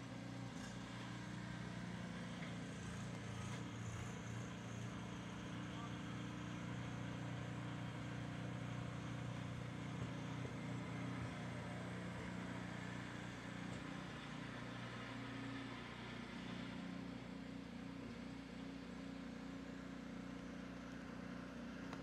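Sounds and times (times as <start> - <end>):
snowblower engine running: 0.0 - 22.0.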